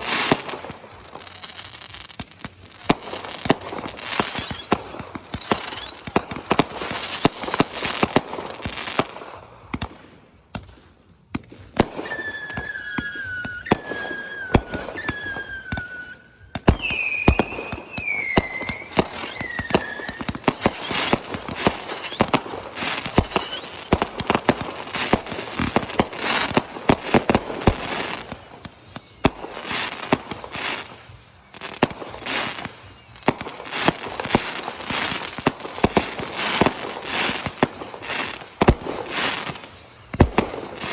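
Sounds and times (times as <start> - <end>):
fireworks falling whistles: 0.0 - 10.0, 11.4 - 40.9
fireworks bangs and crackling: 0.0 - 40.9.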